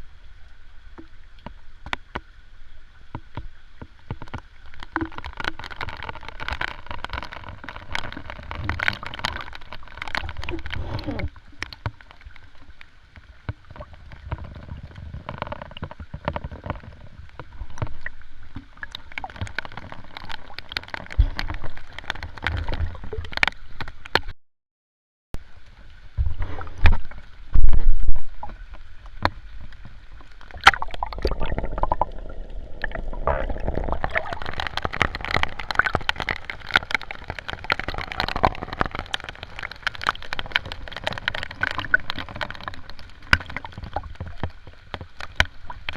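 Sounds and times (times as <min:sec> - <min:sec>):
sea water splashing: 0:03.0 - 0:24.3, 0:25.5 - 0:45.9.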